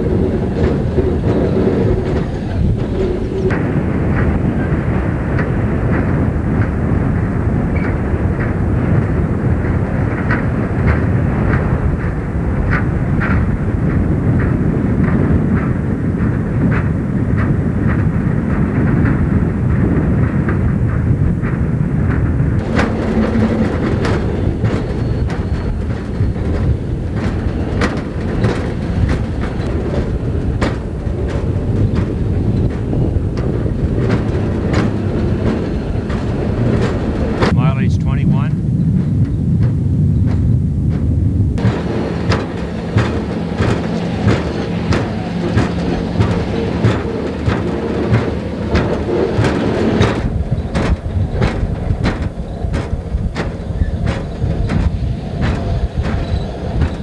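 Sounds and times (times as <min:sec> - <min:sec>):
truck rumbling along rail track: 0:00.0 - 0:37.7, 0:38.3 - 0:57.0.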